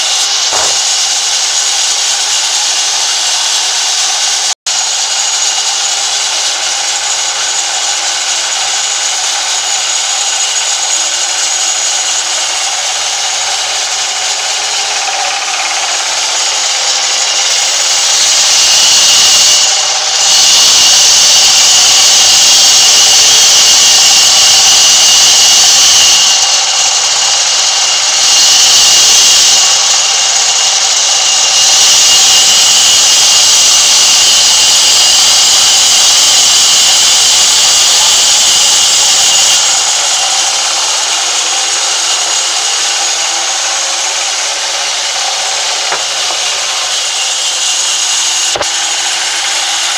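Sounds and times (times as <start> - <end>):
band saw rasping whine: 0.0 - 49.9.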